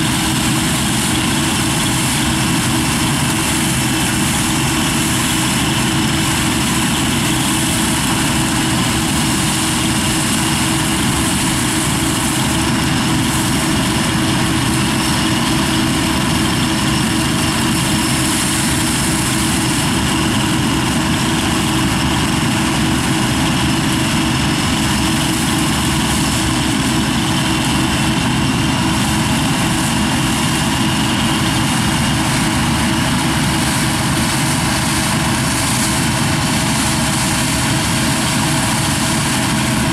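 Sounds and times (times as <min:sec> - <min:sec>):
combine harvester heavy drone: 0:00.0 - 0:39.9
steady high whine: 0:00.0 - 0:39.9.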